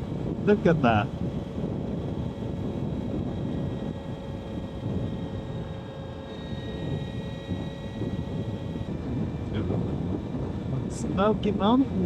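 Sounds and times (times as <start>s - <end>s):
electric drivetrain whine: 0.0s - 12.0s
wind: 0.0s - 12.0s.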